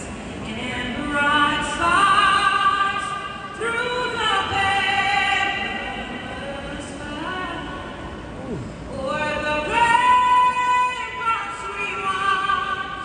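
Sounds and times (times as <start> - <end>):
person singing over loudspeakers: 0.0 - 7.9, 8.5 - 13.0.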